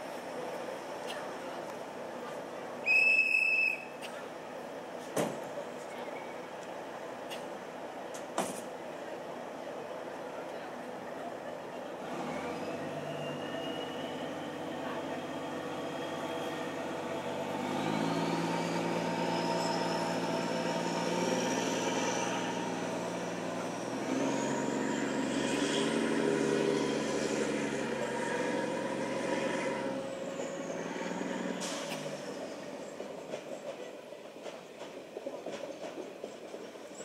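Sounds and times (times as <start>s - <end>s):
train engine running: 0.0s - 37.0s.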